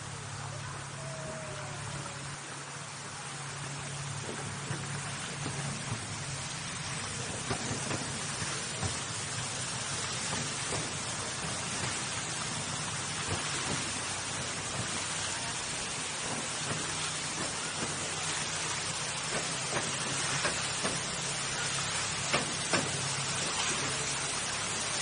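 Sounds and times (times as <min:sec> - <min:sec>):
fountain jets splashing: 0:00.0 - 0:25.0
train wheels clicking on track: 0:03.9 - 0:25.0.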